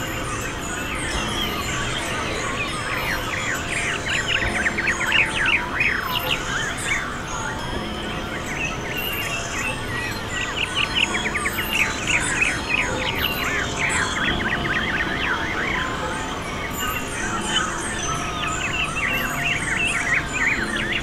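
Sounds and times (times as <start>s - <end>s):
chorus of birds chirping: 0.0s - 21.0s.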